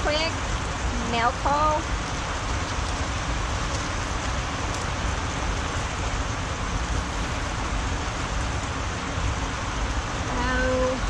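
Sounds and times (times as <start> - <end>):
rain on a greenhouse roof: 0.0 - 11.0.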